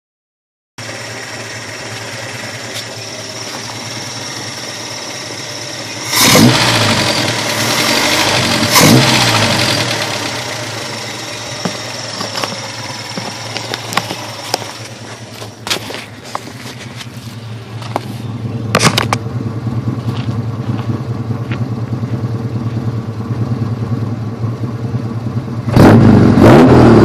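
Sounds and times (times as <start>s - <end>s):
car engine idling and revving: 0.8s - 27.0s.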